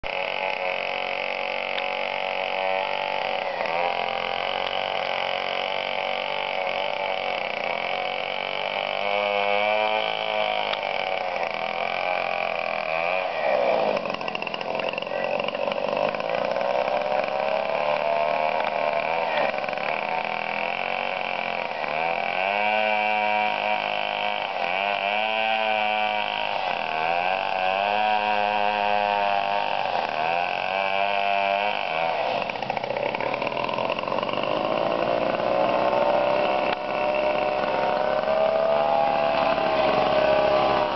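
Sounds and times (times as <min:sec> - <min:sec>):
chainsaw cutting: 0:00.0 - 0:40.9.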